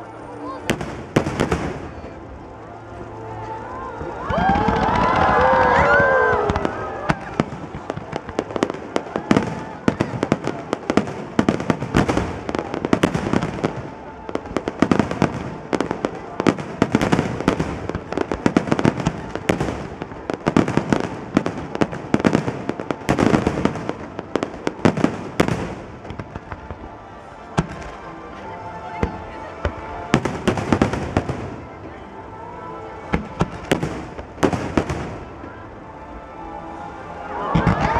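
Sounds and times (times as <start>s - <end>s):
fireworks bursting: 0.0s - 32.0s, 33.0s - 35.6s.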